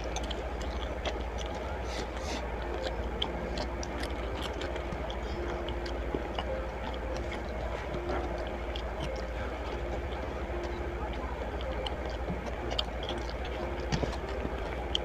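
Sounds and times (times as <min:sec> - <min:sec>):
person chewing food: 0:00.0 - 0:15.0
steady low hum: 0:00.0 - 0:15.0.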